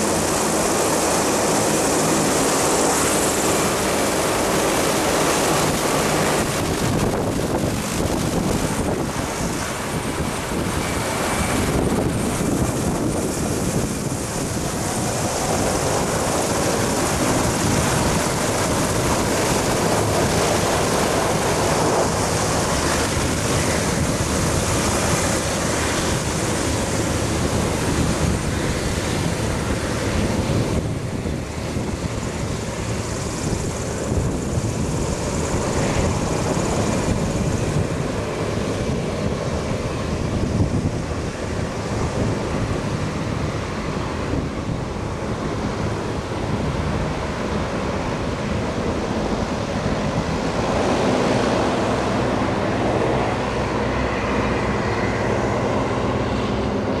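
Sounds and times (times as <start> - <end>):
hovercraft rushing noise: 0.0 - 57.0
low engine hum: 0.0 - 57.0
wind noise on microphone: 0.0 - 57.0.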